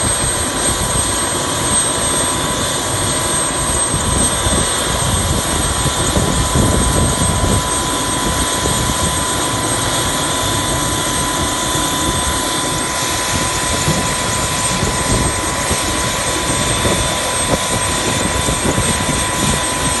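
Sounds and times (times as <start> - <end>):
continuous rushing noise: 0.0 - 20.0
helicopter turbine whine: 0.0 - 20.0.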